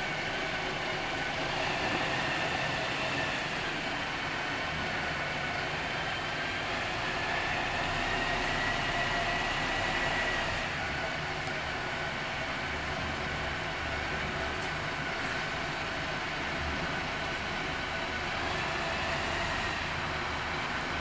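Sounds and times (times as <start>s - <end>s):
bus diesel engine whine: 0.0s - 21.0s.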